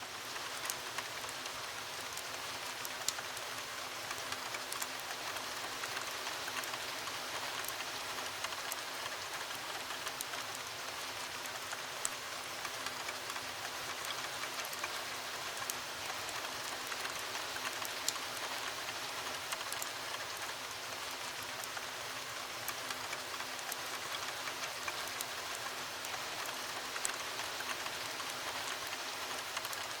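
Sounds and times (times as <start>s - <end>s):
heavy rain on a window: 0.0s - 30.0s.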